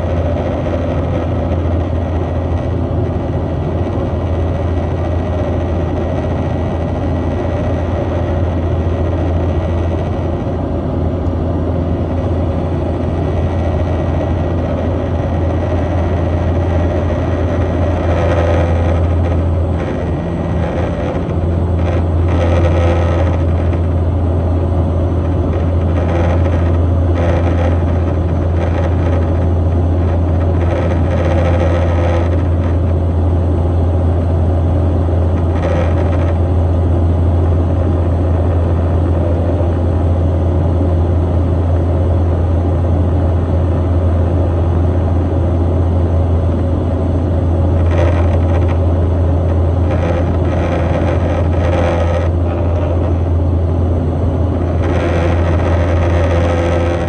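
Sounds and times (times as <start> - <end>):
propeller engines humming: 0.0 - 57.0.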